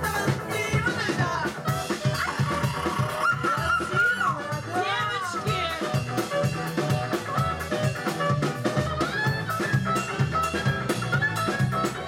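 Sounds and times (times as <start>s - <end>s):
drum kit: 0.0s - 12.0s
electric guitar: 0.0s - 12.0s
upright bass: 0.0s - 12.0s
clarinet: 1.4s - 12.0s.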